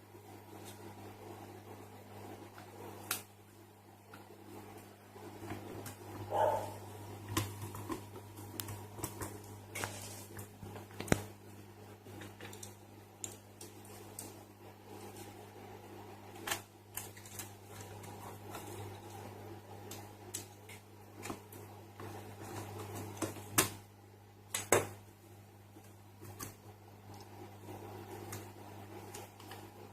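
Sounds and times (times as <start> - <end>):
low electrical hum: 0.0 - 29.9.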